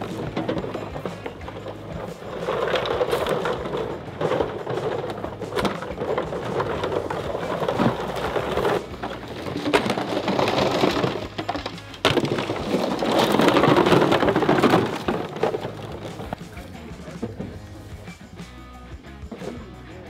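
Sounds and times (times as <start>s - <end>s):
plastic decoys rustling and clattering: 0.0s - 18.7s.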